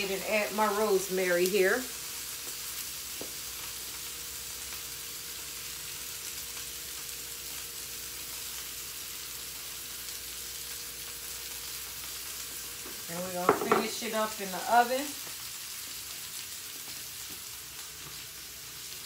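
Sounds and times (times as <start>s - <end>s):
meat sizzling in a skillet: 0.0s - 19.0s.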